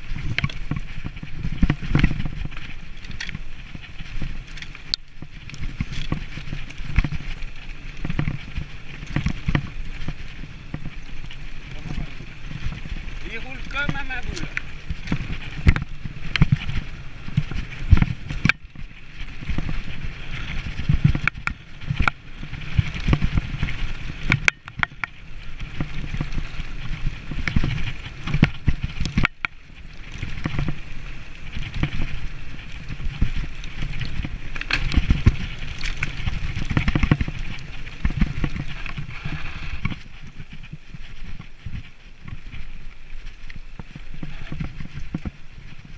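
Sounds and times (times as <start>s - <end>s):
bike knocks and rattles: 0.0s - 42.6s
bike tyre rumble: 0.0s - 45.9s.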